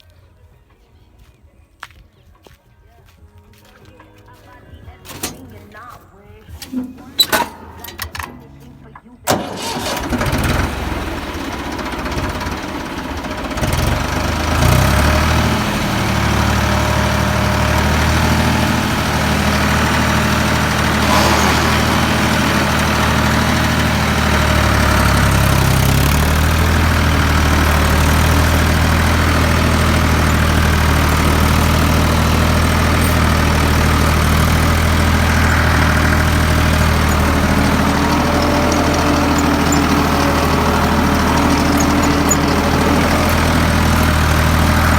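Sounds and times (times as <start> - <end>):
tractor engine running: 4.0 - 44.9.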